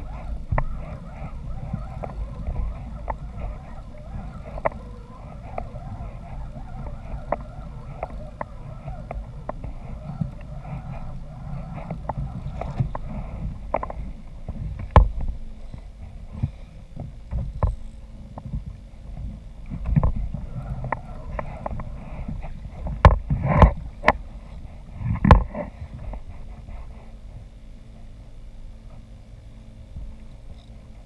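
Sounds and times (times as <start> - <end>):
low rumble and water wash: 0.0 - 31.0.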